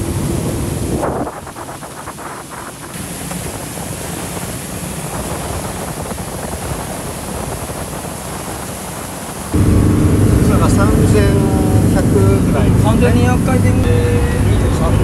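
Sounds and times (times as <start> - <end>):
boat engine humming: 0.0 - 15.0
water rushing along hull: 0.0 - 15.0
wind buffeting microphone: 0.0 - 15.0.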